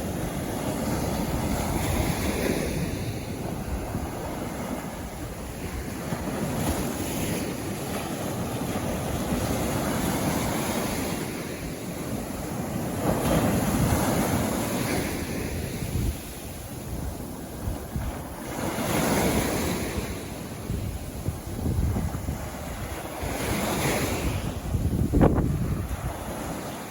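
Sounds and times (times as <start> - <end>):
sea waves breaking on beach: 0.0 - 26.9.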